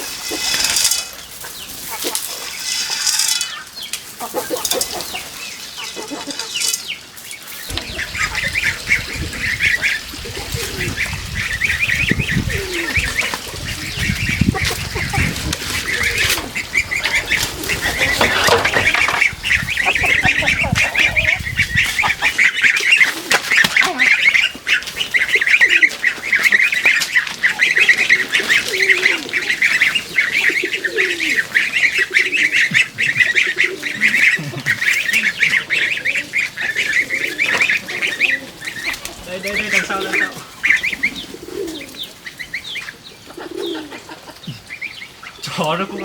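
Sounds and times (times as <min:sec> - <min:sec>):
waterfowl quacking and honking: 0:00.0 - 0:46.0.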